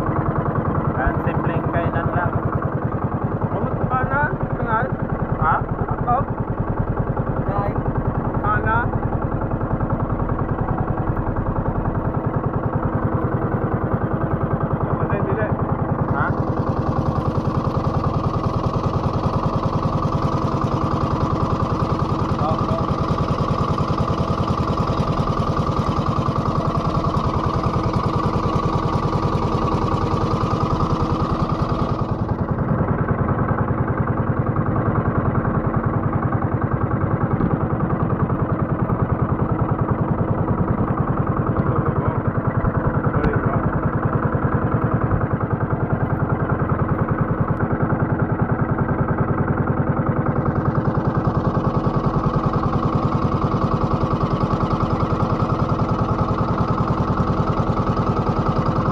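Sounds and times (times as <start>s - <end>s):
boat engine running steadily: 0.0s - 58.9s.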